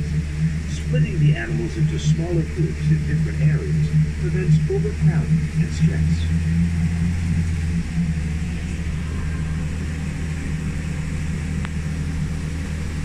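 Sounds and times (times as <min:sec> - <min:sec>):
faint ride rumble: 0:00.0 - 0:13.0
low engine drone: 0:00.0 - 0:13.0.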